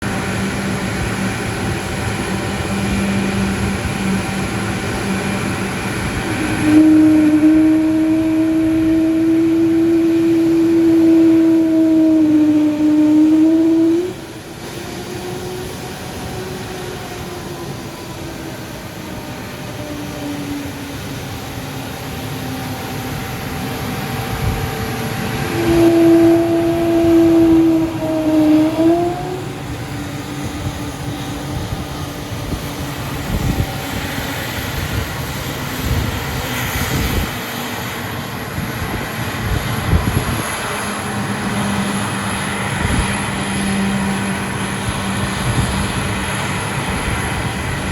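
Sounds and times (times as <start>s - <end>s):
jet engines moaning: 0.0s - 47.9s.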